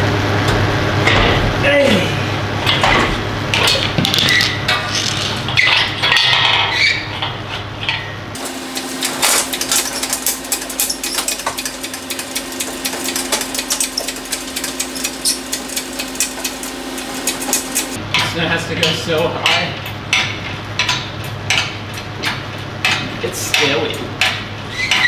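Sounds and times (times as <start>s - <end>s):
steady hum: 0.0s - 24.7s
metal tools clanking and rattling: 2.6s - 25.0s.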